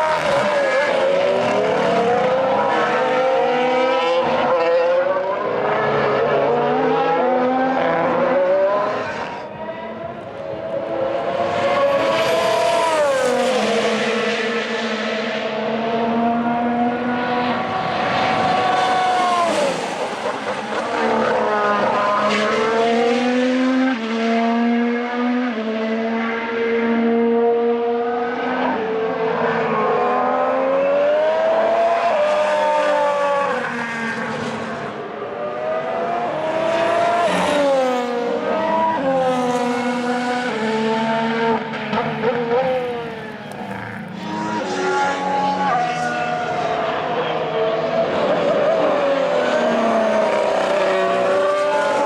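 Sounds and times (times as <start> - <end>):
racing car engines passing: 0.0 - 52.0.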